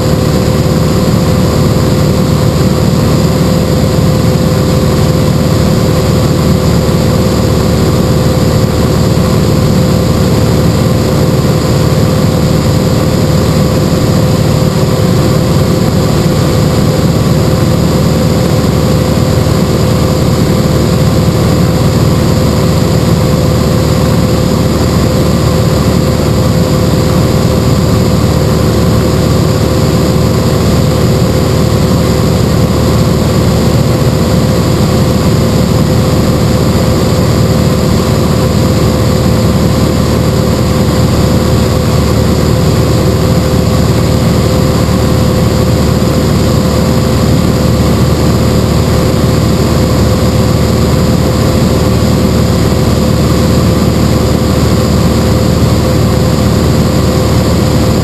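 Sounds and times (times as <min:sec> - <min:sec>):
propeller airplane engine: 0:00.0 - 0:58.0.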